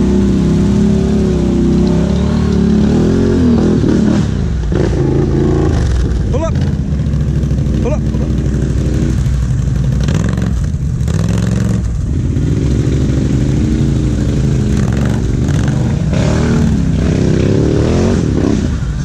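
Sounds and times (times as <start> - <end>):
atv idling: 0.0 - 17.7
quad engine revving: 0.0 - 19.0.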